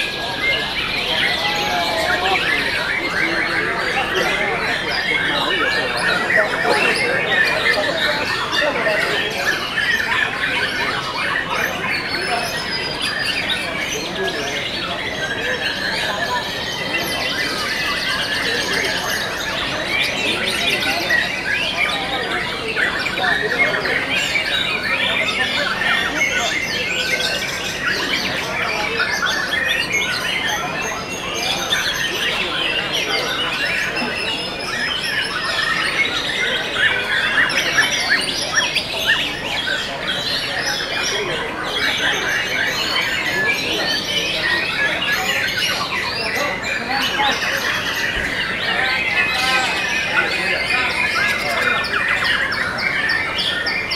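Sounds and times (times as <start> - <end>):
birds singing whistles and trills: 0.0 - 53.9.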